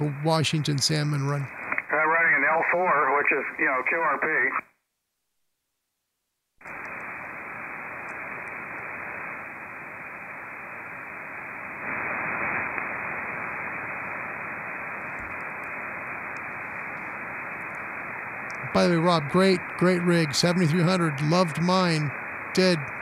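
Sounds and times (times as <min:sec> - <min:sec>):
radio receiver hiss: 0:00.0 - 0:04.7, 0:06.6 - 0:23.0.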